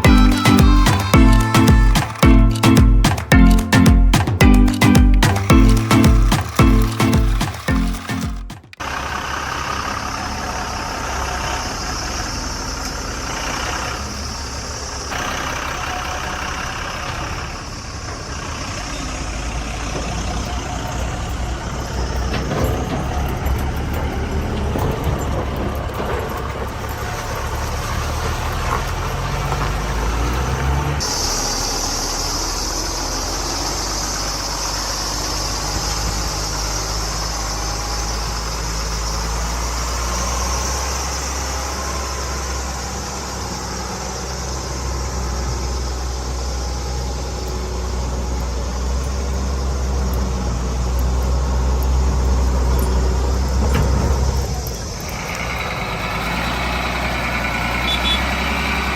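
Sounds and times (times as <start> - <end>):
truck engine idling: 5.5 - 58.9.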